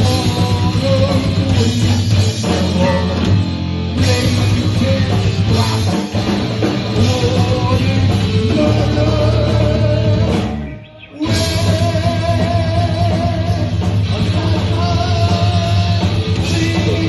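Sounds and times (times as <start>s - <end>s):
person singing: 0.0s - 3.4s, 4.0s - 17.0s
heavy metal band playing live: 0.0s - 17.0s.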